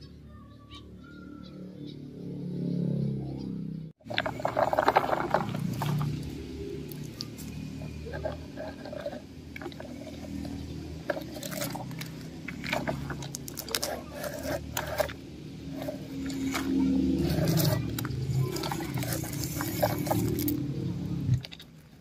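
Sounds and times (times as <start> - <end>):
toy truck wheels rolling on dirt: 4.0 - 22.0.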